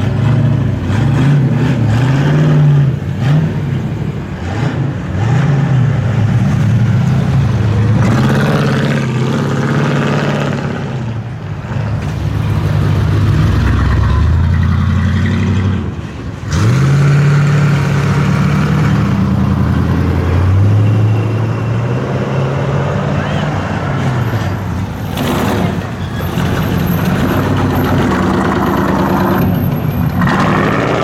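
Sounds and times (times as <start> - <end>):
car engine cruising: 0.0 - 31.0
second car engine: 0.0 - 31.0.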